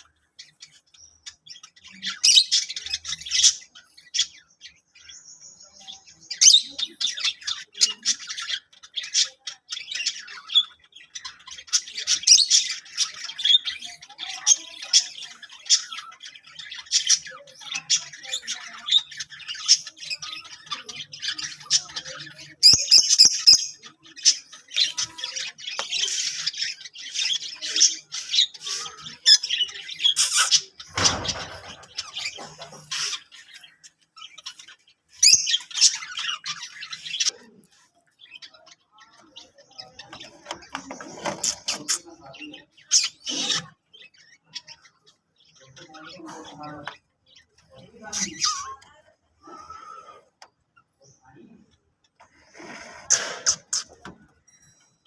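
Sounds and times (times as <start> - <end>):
lovebirds chattering and squawking: 0.0 - 55.0.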